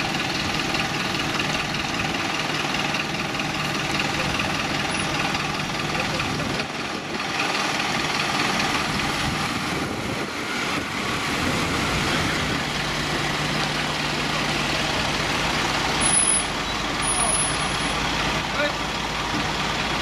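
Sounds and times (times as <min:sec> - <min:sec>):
diesel truck engines running: 0:00.0 - 0:20.0
truck driving past: 0:00.0 - 0:20.0.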